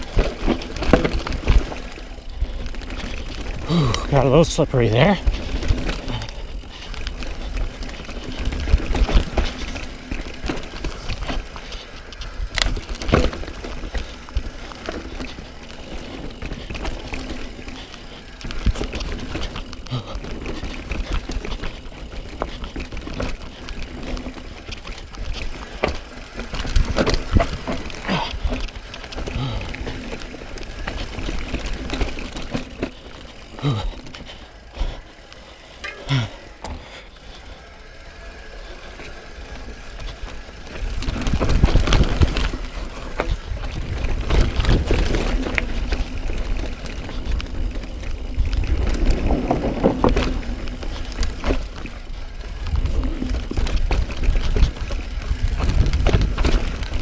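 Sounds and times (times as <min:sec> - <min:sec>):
bike frame rattling and clacking: 0:00.0 - 0:57.0
bike tyres rolling on dirt: 0:00.0 - 0:57.0.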